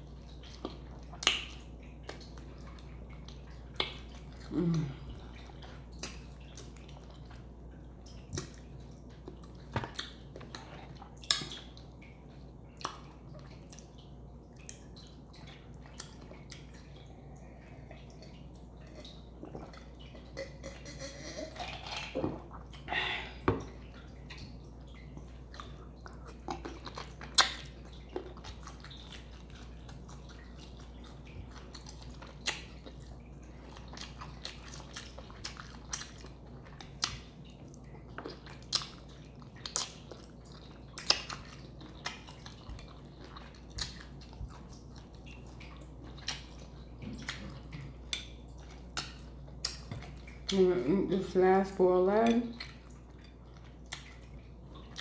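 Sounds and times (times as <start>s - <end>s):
person chewing and mouth smacking: 0.1s - 50.7s, 52.2s - 55.0s.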